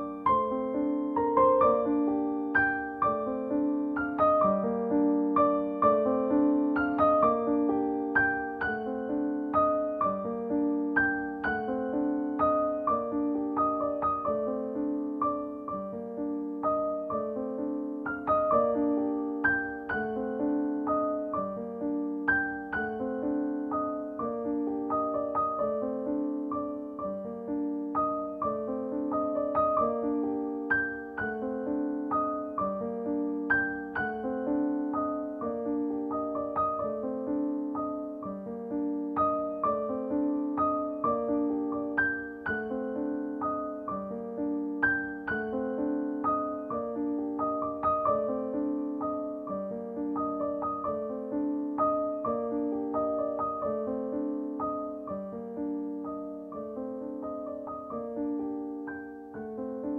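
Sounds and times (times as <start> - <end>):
gentle piano melody: 0.0 - 59.9.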